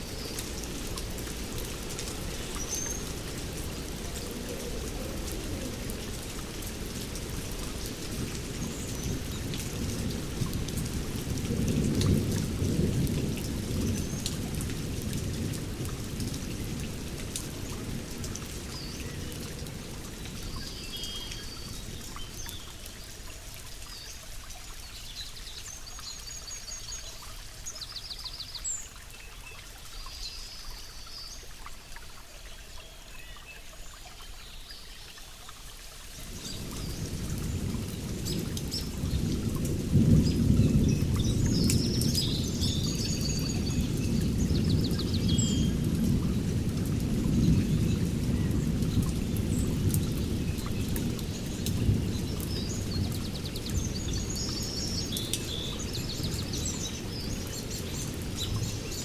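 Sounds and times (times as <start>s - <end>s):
rain: 0.0s - 59.0s.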